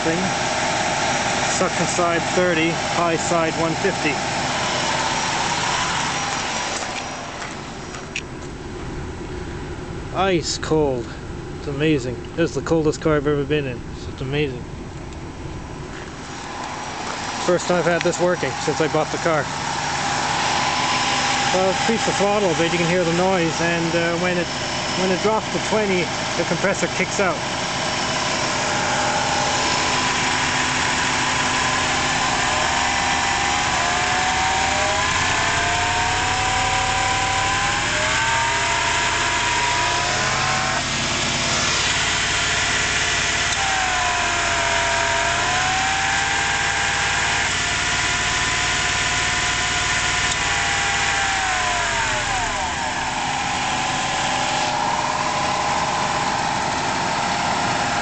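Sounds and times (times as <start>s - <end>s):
car engine revving: 0.0s - 10.4s, 11.0s - 58.0s
air conditioning compressor growling: 0.0s - 58.0s.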